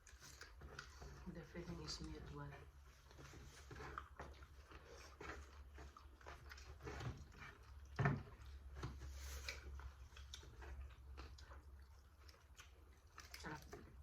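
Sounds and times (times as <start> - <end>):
biting and chewing: 0.0 - 14.0.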